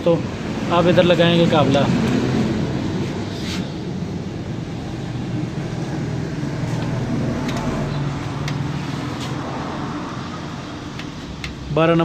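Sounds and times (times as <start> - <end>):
low vehicle rumble: 0.2 - 11.5.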